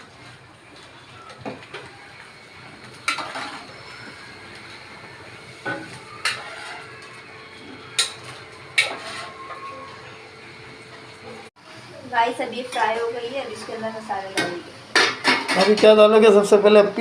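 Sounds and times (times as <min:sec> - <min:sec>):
corn sizzling in a pan: 0:00.0 - 0:17.0.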